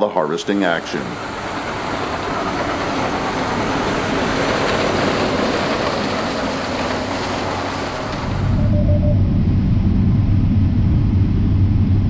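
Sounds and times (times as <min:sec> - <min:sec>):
combine harvester rumble and clatter: 0:00.0 - 0:12.0.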